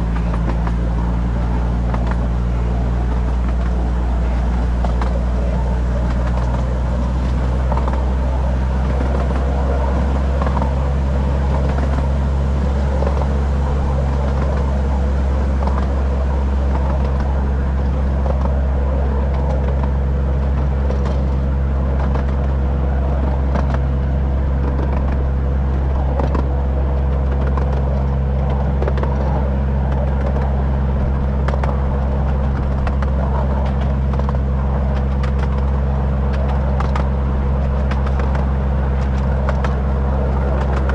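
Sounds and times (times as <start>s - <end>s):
thin steady whine: 0.0s - 40.9s.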